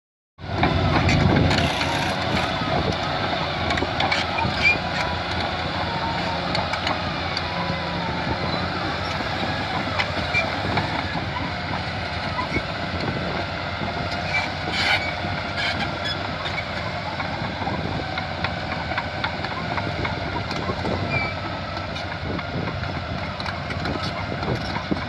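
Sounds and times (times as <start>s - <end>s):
bulldozer diesel engine running: 0.4s - 25.0s
steel tracks clanking and squeaking: 0.5s - 25.0s.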